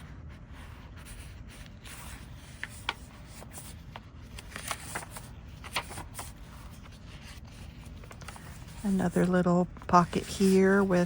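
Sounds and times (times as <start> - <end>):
paper pages rustling: 0.0 - 11.0
paper crackles: 0.3 - 11.0.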